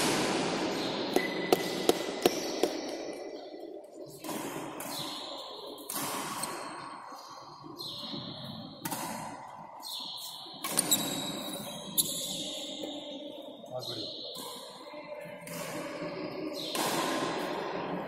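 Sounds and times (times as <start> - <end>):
rackets striking shuttlecock: 0.0 - 8.2, 8.8 - 12.5, 15.4 - 18.0.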